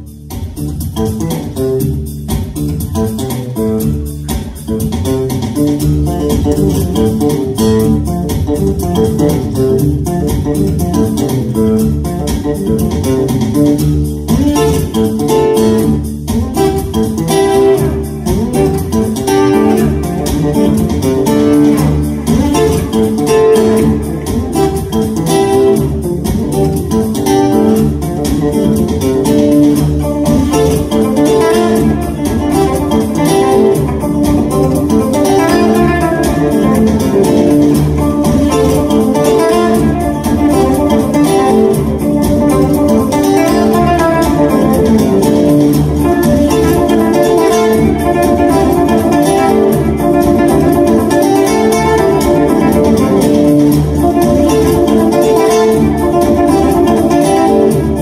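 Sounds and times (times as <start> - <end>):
looped acoustic guitar picking: 0.0 - 58.0
low bass line: 0.0 - 58.0.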